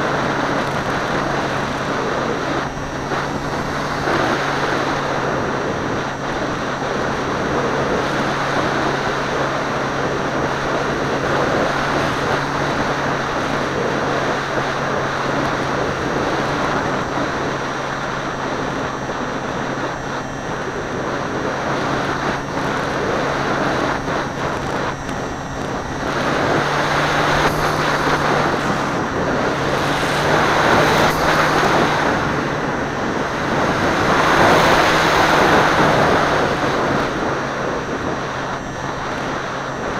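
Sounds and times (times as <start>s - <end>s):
model plane motor humming: 0.0s - 39.9s
wind rushing over microphone: 0.0s - 39.9s.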